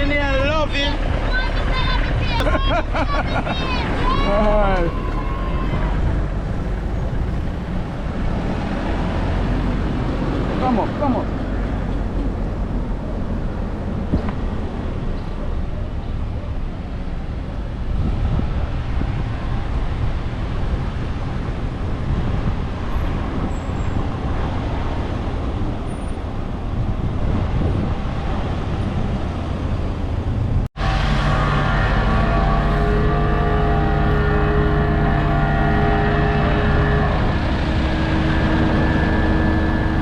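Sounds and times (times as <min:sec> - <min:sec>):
vehicles running on road: 0:00.0 - 0:40.0.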